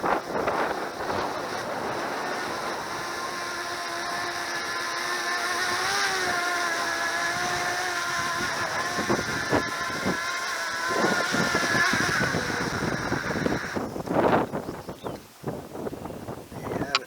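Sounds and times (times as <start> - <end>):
drone propellers whining: 0.0 - 15.2.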